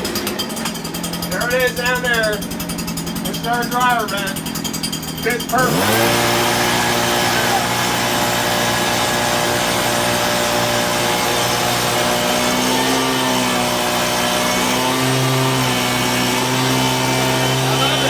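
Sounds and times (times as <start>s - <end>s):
leaf blower engine running: 0.0s - 18.0s.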